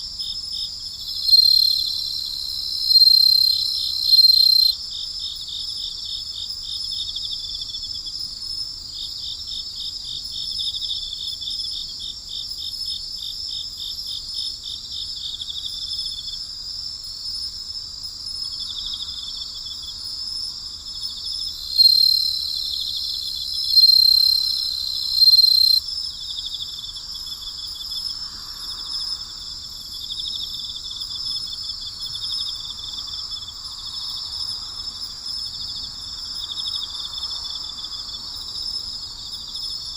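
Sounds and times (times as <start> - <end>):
crickets and insects chirping: 0.0 - 39.9
nearby insect trill: 0.0 - 39.9.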